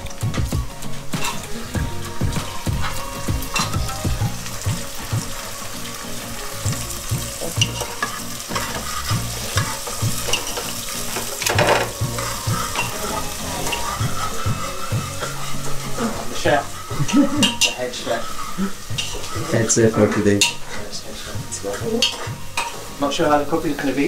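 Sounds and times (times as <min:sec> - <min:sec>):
spoon knocking and scraping pan: 0:00.0 - 0:23.0
curry sizzling in a pan: 0:00.0 - 0:24.0.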